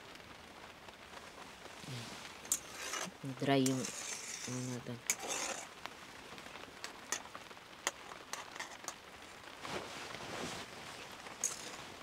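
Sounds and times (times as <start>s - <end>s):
raindrops ticking: 0.0s - 9.7s
rain hiss: 0.0s - 12.0s.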